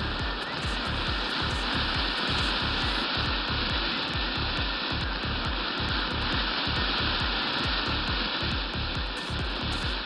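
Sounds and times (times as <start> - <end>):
firework spark fizzing hiss: 0.0 - 10.0
sharp crackles of glitter: 0.0 - 10.0.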